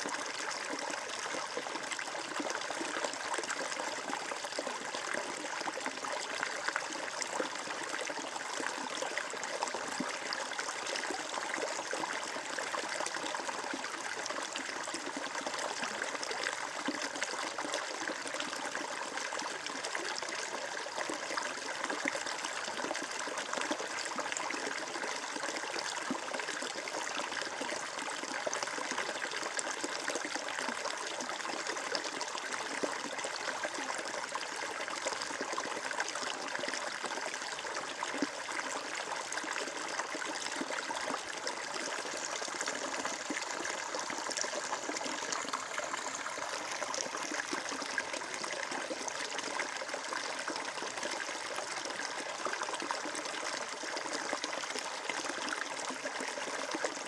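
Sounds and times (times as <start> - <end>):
stream water rushing and trickling: 0.0 - 57.0.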